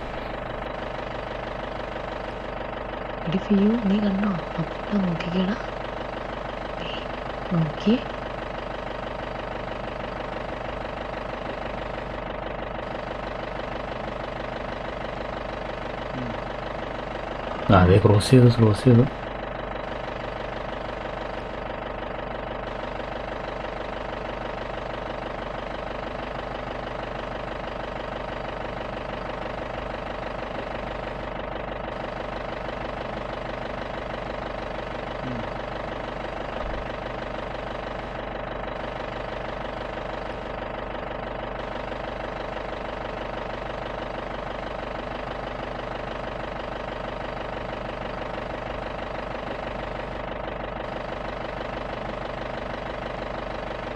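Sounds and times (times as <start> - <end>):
jeep engine running: 0.0 - 53.9.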